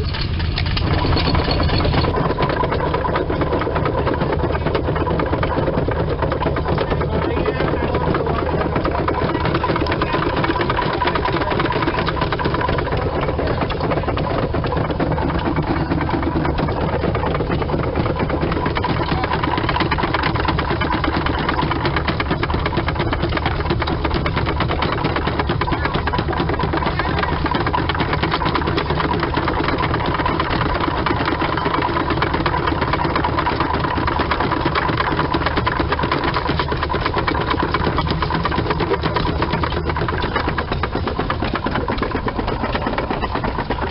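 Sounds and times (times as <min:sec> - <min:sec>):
rock crusher clattering: 0:00.0 - 0:43.9.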